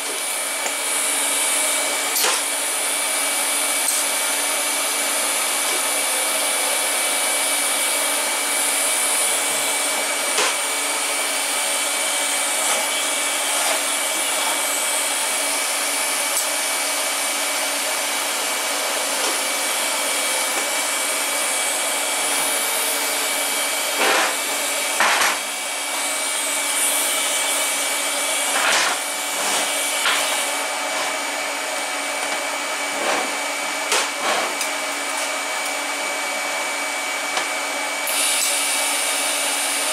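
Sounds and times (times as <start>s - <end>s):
blower hiss: 0.0s - 35.1s, 35.8s - 39.9s.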